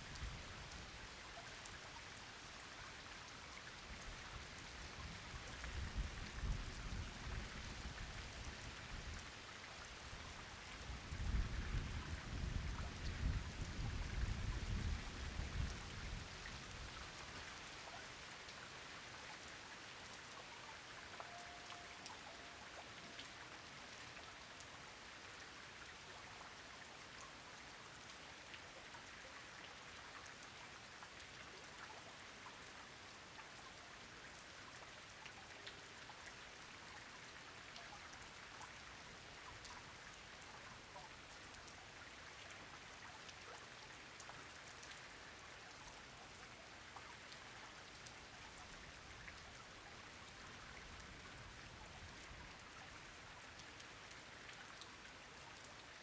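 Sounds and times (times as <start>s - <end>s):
heavy rain on a pond: 0.0s - 56.0s.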